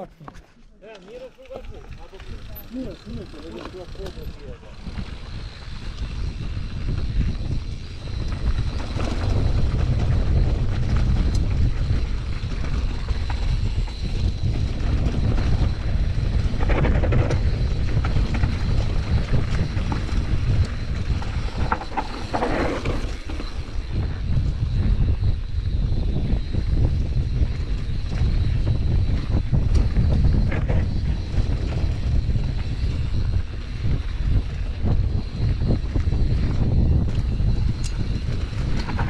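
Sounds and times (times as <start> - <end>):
bike rattling: 0.0 - 39.0
wind buffeting microphone: 1.2 - 39.0.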